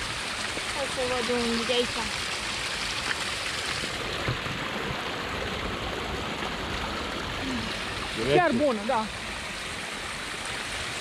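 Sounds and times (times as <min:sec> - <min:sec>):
spring water trickling and splashing: 0:00.0 - 0:11.0.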